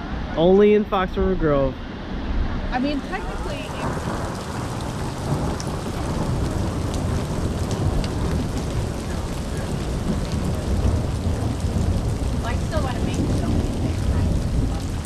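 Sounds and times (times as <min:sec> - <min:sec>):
low rumble: 0:00.0 - 0:15.0
rain falling: 0:02.7 - 0:15.0.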